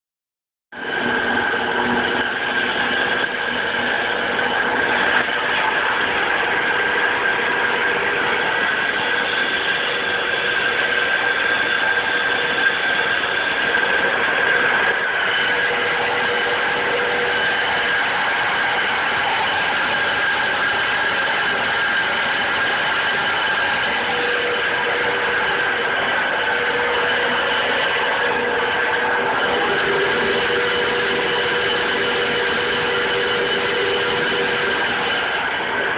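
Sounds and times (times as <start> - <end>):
electric gear motors whining: 0.8 - 35.9.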